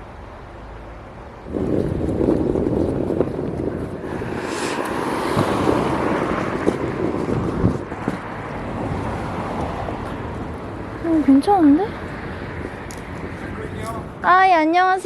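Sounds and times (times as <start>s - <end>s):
vehicle running noise: 0.0s - 14.4s
wind buffeting microphone: 0.0s - 15.0s.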